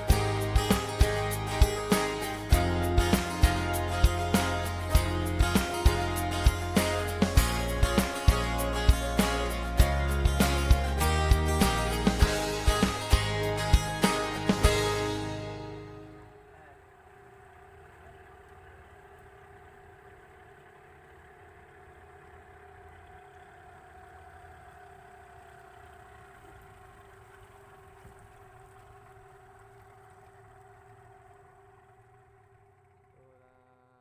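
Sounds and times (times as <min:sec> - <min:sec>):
faint boat engine running: 0:00.0 - 0:34.0.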